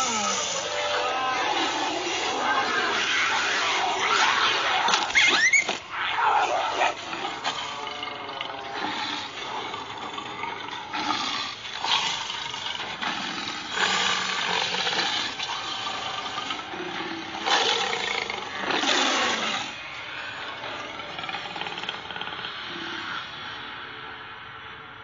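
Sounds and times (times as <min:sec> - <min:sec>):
big cats growling and roaring: 0:00.0 - 0:23.9.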